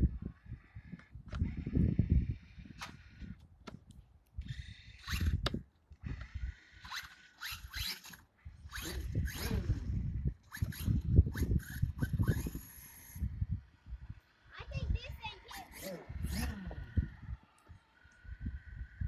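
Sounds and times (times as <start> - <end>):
electric motor and gears whining: 0.0 - 19.0
wind buffeting microphone: 0.0 - 19.0.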